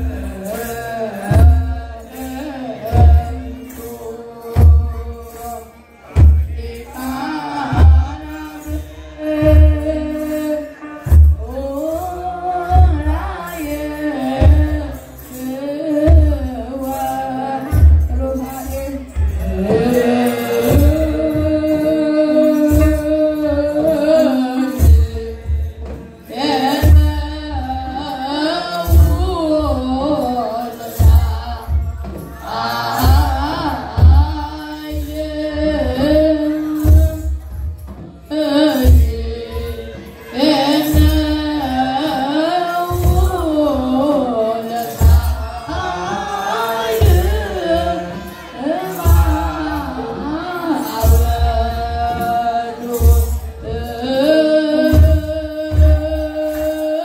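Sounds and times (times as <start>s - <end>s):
men chanting in unison: 0.0s - 37.2s, 38.6s - 55.0s
jingling rattle: 0.0s - 57.0s.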